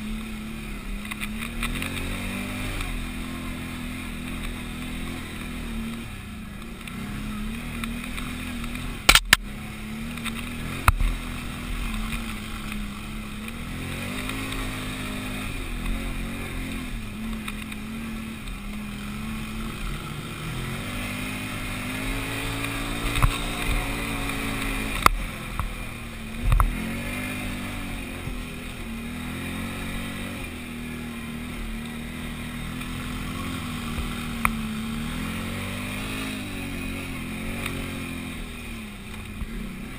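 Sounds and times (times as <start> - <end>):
atv engine running under load: 0.0 - 39.9.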